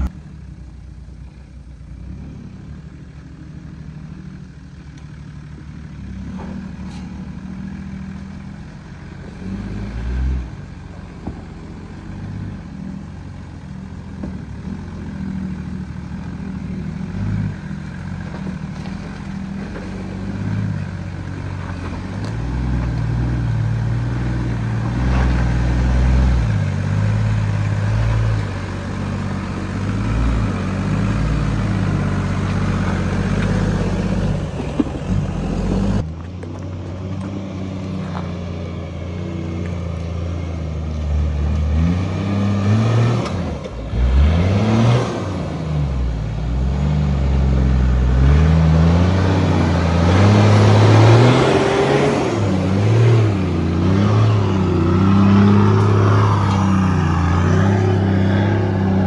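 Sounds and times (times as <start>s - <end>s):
engine working under load: 0.0s - 59.0s.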